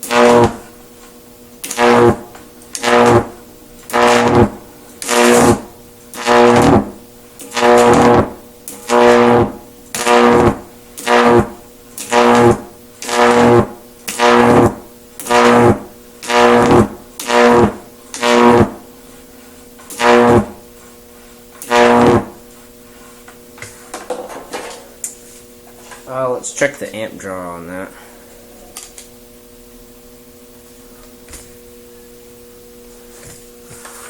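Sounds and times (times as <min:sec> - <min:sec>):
electrical arc buzzing: 0:00.0 - 0:34.0.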